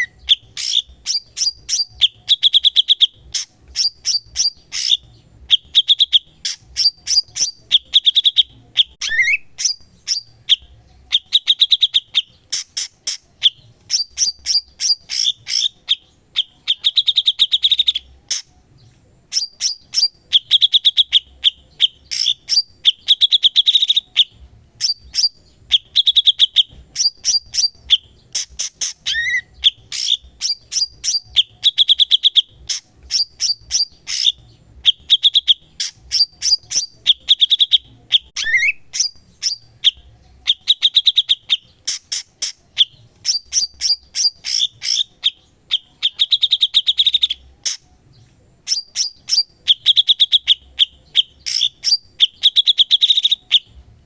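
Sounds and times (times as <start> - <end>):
bird singing chipping notes: 0.0 - 53.8.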